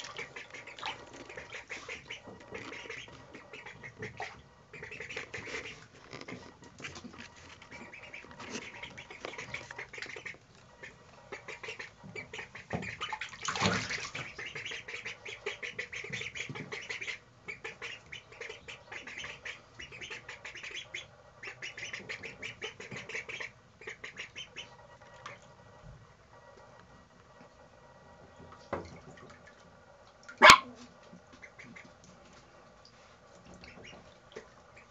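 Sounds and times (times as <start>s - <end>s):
ducklings quacking and squawking: 0.0s - 26.0s, 30.4s - 30.6s, 31.3s - 32.0s, 33.5s - 34.9s.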